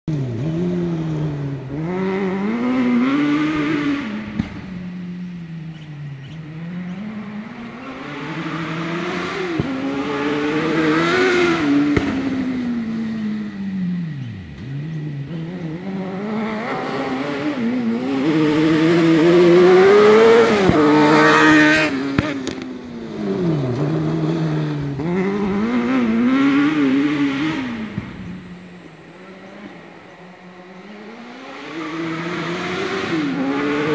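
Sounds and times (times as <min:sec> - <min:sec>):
buggy engine revving high: 0:00.0 - 0:33.9.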